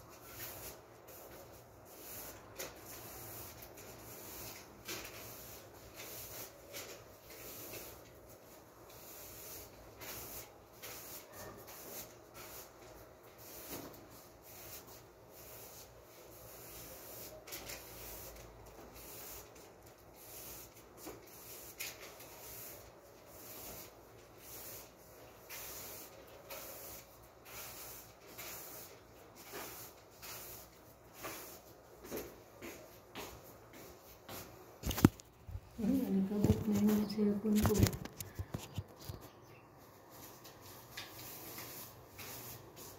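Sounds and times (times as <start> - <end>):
broom sweeping: 0.0 - 39.2, 39.8 - 42.9.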